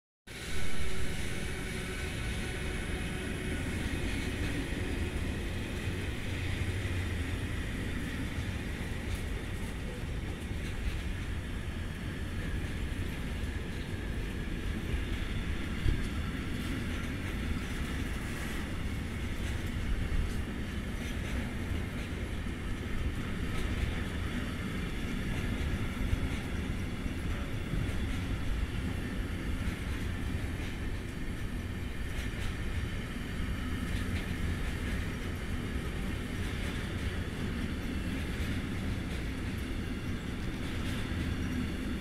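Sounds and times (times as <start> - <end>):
freight wagon wheels rumbling on rail: 0.3 - 42.0.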